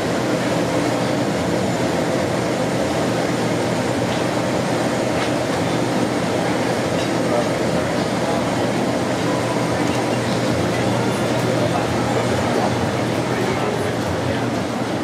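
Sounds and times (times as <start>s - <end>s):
kitchen mechanical roar: 0.0s - 15.0s.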